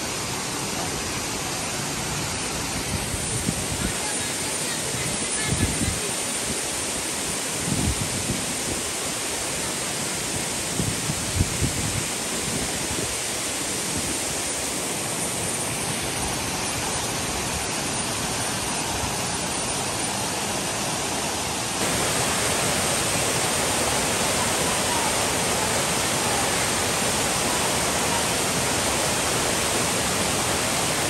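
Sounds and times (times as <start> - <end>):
waterfall and river rushing: 0.0 - 31.0.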